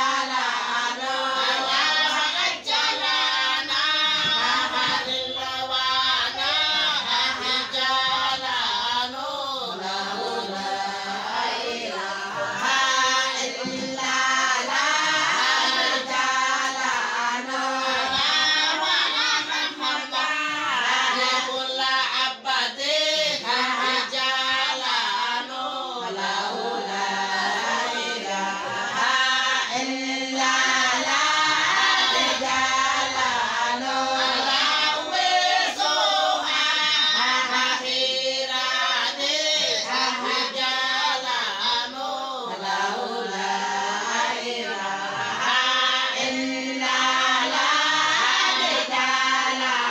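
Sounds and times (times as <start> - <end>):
women singing together: 0.0 - 49.9.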